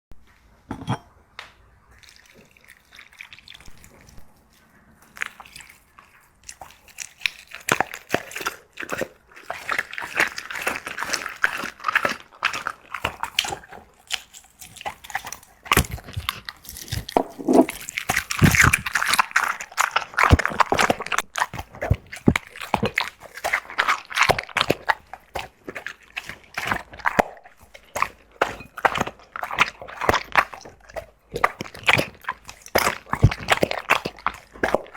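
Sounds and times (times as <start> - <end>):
dog chewing bone: 3.7 - 34.9.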